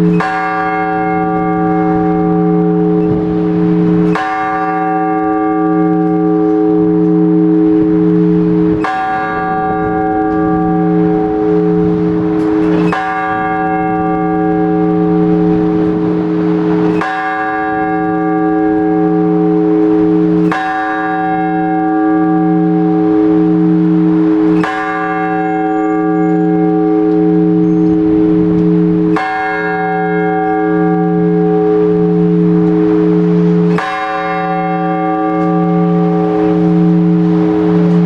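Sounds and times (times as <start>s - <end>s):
low wavering hum: 0.0s - 4.3s, 5.2s - 17.0s, 21.6s - 38.0s
large church bell ringing: 0.0s - 38.0s.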